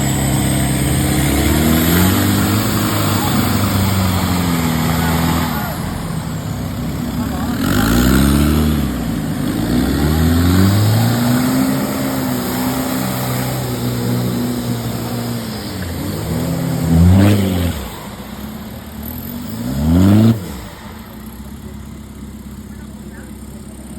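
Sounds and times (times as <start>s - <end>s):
engine revving: 0.0s - 23.9s.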